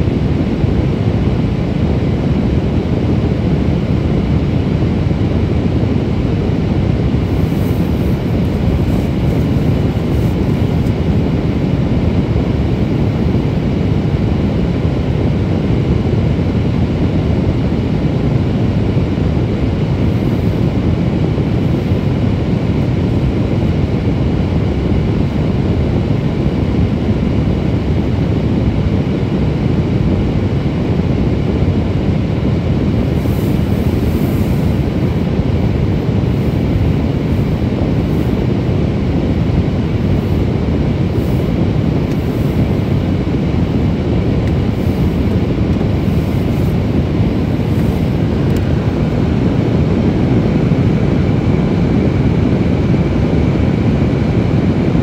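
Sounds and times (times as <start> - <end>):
vehicle low rumble: 4.0 - 15.7, 18.6 - 51.8.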